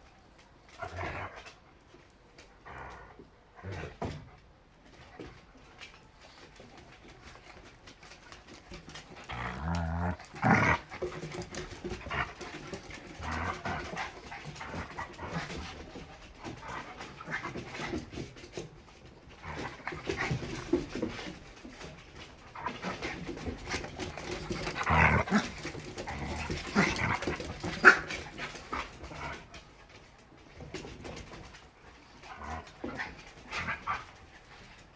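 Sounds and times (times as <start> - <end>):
puppies growling: 2.4 - 4.3, 6.3 - 30.0, 30.6 - 34.9
puppies panting: 6.2 - 34.9.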